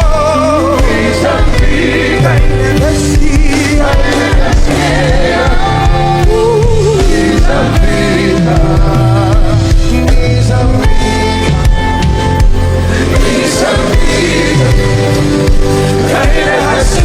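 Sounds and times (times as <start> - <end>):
band with drums and bass: 0.0 - 17.0
singing voices and choir: 0.0 - 17.0.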